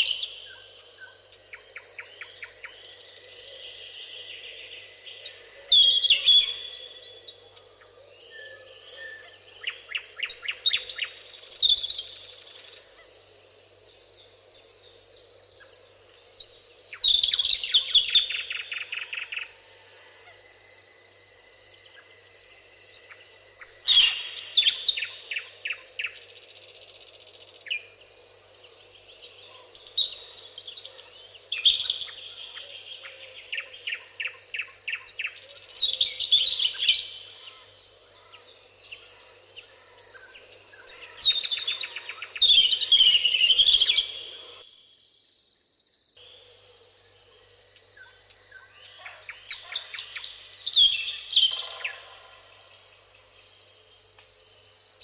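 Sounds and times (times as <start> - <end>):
songbird singing trill: 0.0 - 13.2, 14.6 - 55.0.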